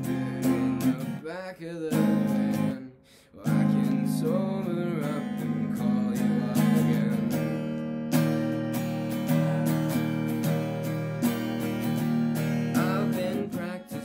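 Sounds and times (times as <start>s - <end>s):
electric guitar strumming chords: 0.0s - 1.3s, 3.5s - 14.0s.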